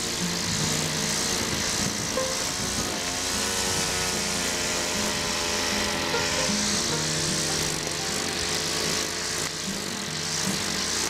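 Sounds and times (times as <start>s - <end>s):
brush cutter engine running: 0.0s - 11.0s
background music: 0.2s - 10.5s.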